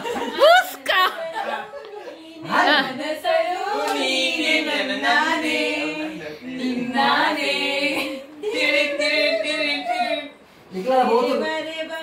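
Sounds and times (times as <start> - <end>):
group singing unaccompanied: 1.1 - 12.0.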